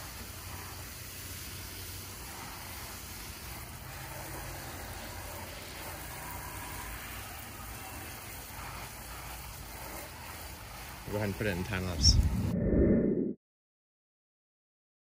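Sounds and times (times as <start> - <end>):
water spraying onto metal coils: 0.0 - 12.3.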